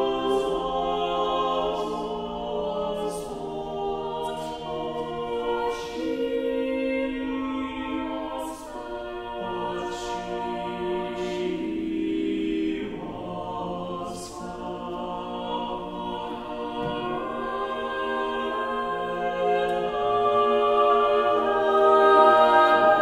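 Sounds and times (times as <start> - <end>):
choir singing unaccompanied: 0.0 - 23.0.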